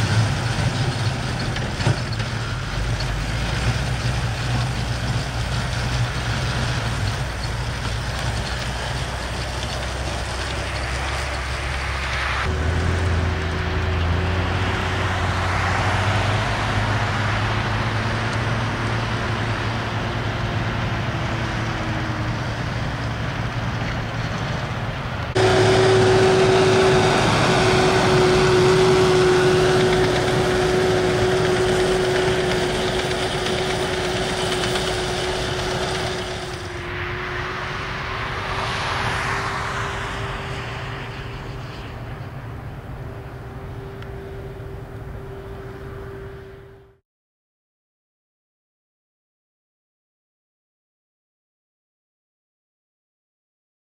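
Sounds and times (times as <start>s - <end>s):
spreader machinery whine: 0.0s - 47.0s
tractor diesel engine: 0.0s - 47.0s.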